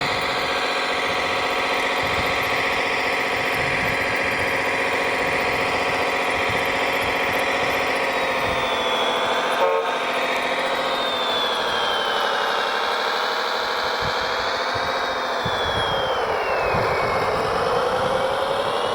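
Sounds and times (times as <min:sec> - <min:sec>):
high whine sliding down: 0:00.0 - 0:18.9
motor and engine drone: 0:00.0 - 0:18.9.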